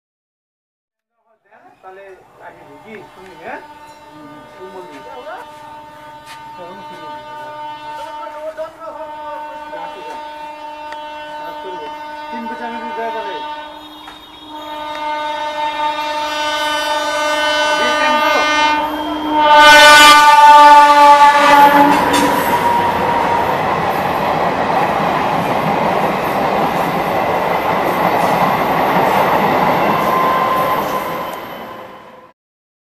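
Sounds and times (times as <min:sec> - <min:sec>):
train wheels rumbling on rails: 0:02.0 - 0:32.0
train horn blast: 0:02.6 - 0:25.7, 0:27.6 - 0:32.3.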